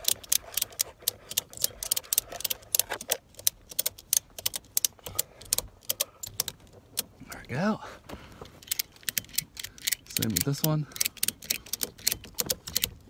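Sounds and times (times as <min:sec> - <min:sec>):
ratchet strap clicking: 0:00.0 - 0:07.4, 0:08.4 - 0:13.0.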